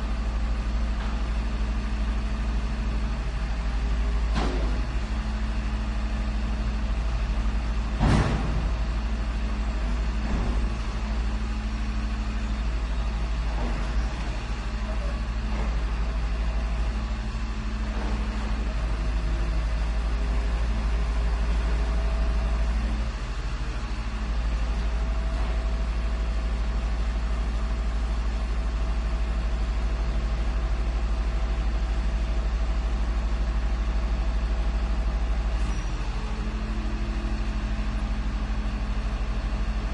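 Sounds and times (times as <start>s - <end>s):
garbage truck engine running: 0.0s - 39.9s.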